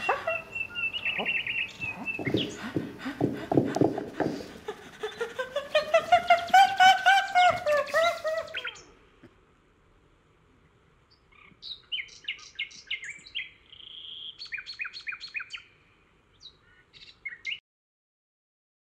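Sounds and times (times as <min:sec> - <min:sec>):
bird chirping: 0:00.0 - 0:09.0, 0:11.1 - 0:17.6.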